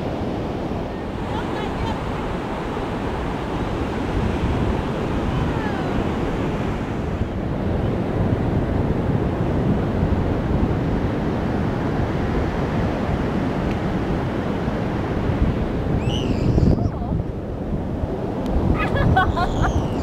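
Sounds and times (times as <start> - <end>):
ocean surf on a beach: 0.0 - 20.0
wind buffeting microphone: 0.0 - 20.0.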